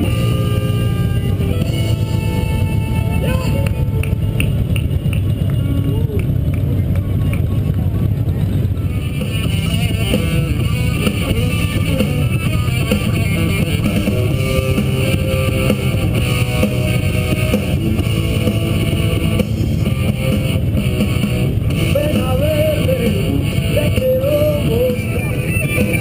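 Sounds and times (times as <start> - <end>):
rock music with guitar and drums: 0.0 - 5.6, 8.8 - 26.0
motorcycle engines rumbling: 0.0 - 26.0.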